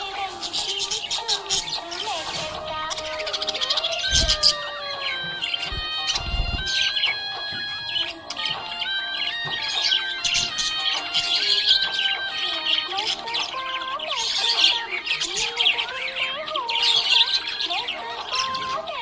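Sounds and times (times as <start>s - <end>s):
budgerigars chirping and squawking: 0.0s - 19.0s
music melody: 0.0s - 19.0s.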